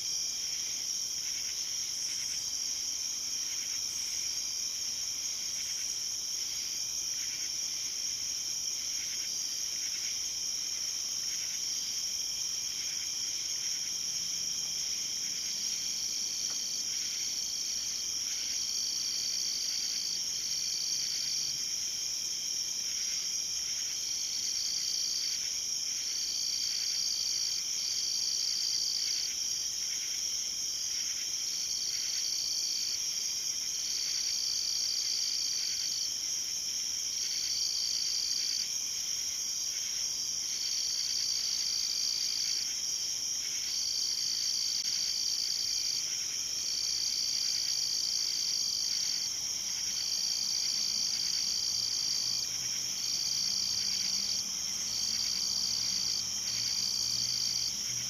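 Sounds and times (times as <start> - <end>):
lower insect call: 0.0 - 58.0.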